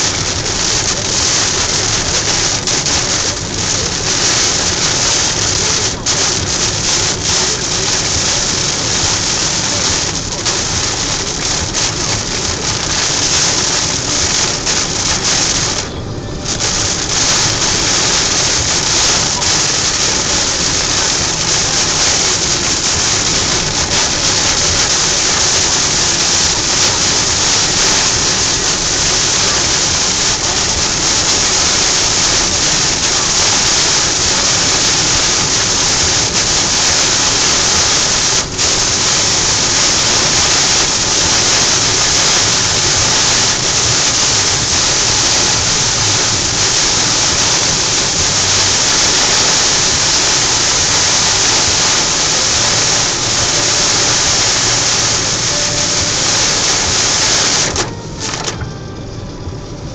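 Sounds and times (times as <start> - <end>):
heavy rain drumming on car roof: 0.0 - 59.9.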